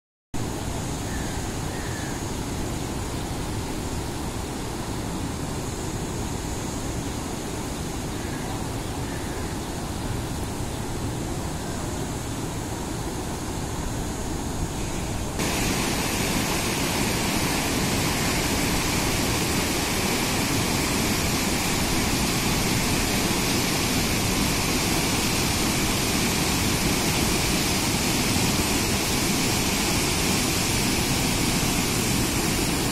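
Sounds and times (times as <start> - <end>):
river rushing through rapids: 0.4 - 32.9.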